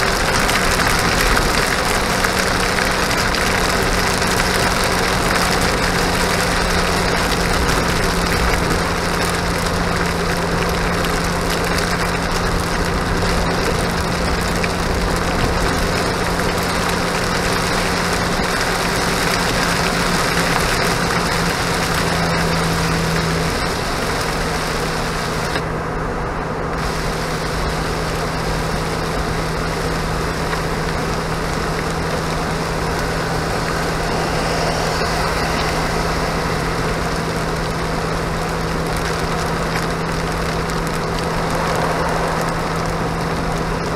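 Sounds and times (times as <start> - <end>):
car engine hum: 0.0 - 43.9
rain: 0.0 - 43.9
tyres hissing on wet road: 0.0 - 43.9.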